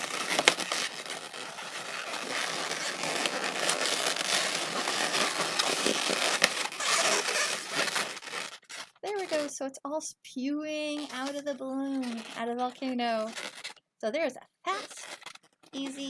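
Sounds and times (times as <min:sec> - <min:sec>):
balloons rubbing and creaking: 0:00.0 - 0:09.7, 0:10.7 - 0:13.8, 0:14.6 - 0:16.0.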